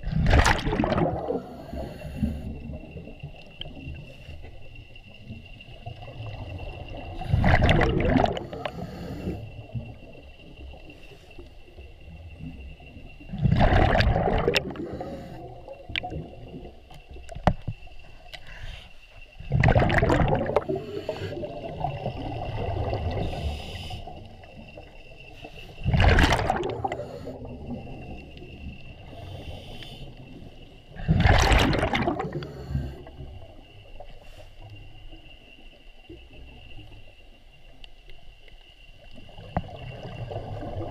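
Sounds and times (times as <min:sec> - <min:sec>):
exhaled bubbles underwater: 0:00.0 - 0:17.7, 0:19.3 - 0:34.9, 0:39.0 - 0:40.9.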